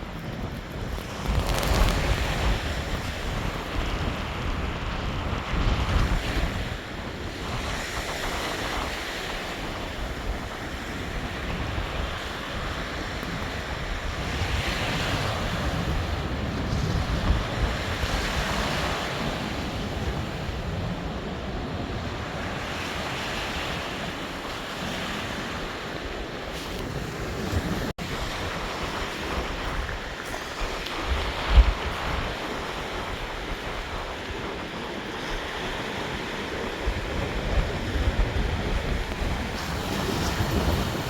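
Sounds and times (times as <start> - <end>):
sea surf breaking on shore: 0.0 - 41.0
wind buffeting microphone: 0.0 - 41.0.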